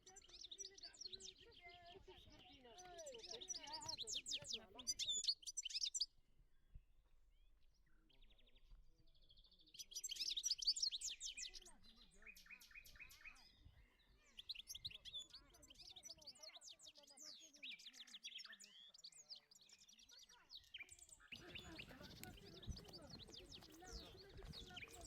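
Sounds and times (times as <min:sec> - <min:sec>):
songbirds chirping and twittering: 0:00.0 - 0:25.0.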